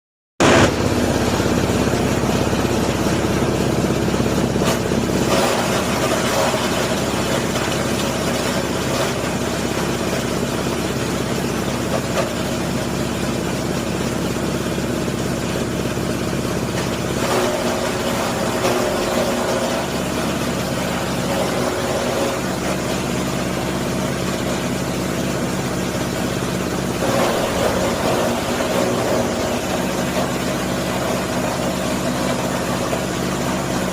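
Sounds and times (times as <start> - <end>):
grinding machine grinding: 0.4 - 33.9.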